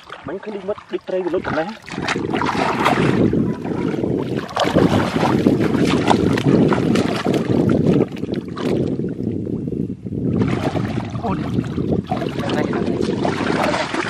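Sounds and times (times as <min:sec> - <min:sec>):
mud and water splashing: 0:00.0 - 0:09.2, 0:10.3 - 0:14.0.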